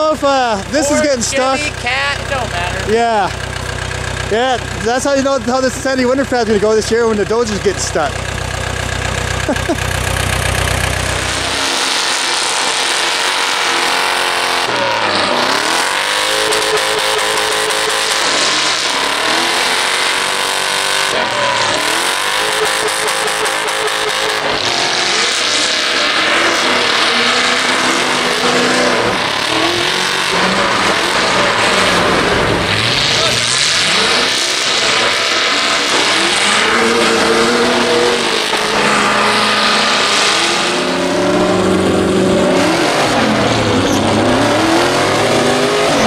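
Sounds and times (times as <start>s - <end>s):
off-road engines revving: 0.0s - 46.0s.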